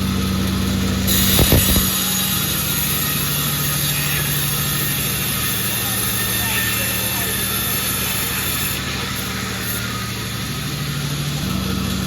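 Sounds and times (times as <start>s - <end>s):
sawmill machine humming: 0.0s - 12.0s
high hiss: 0.6s - 12.0s.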